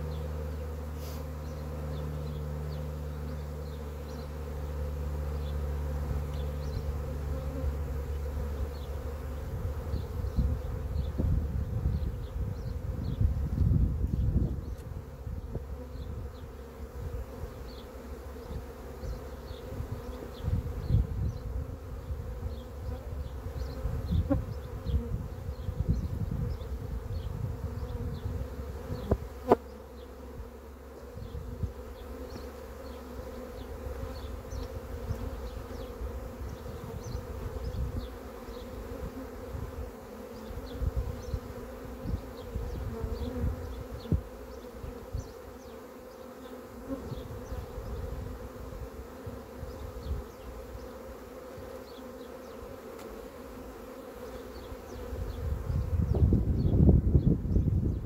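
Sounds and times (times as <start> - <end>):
bee swarm buzzing: 0.0 - 58.0.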